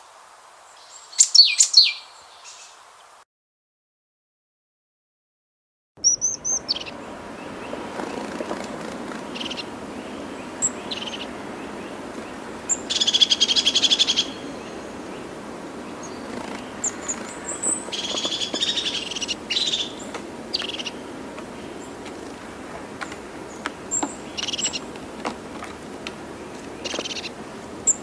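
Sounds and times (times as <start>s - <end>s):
steady background hiss: 0.0s - 3.2s, 6.0s - 28.0s
bird calling with rattling trills: 0.8s - 2.7s, 6.0s - 28.0s.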